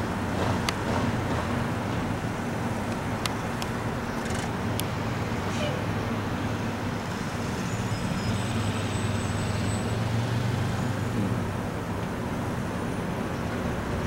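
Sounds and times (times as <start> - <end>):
distant engines rumbling: 0.0 - 14.0.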